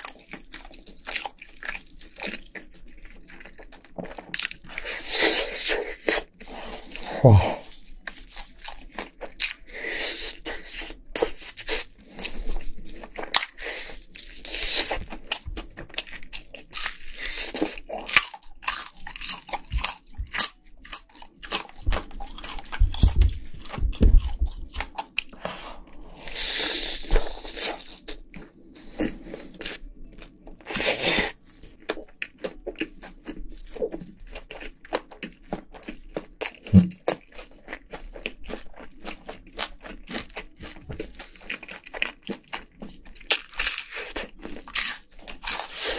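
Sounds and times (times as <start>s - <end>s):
crunching fried chicken: 0.0s - 25.4s, 26.2s - 45.9s.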